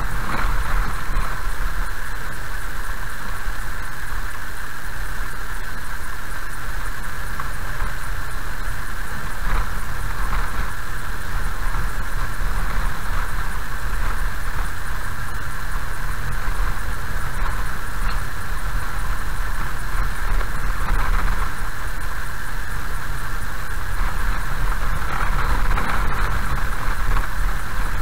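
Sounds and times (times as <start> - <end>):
car driving on gravel: 0.0 - 28.0.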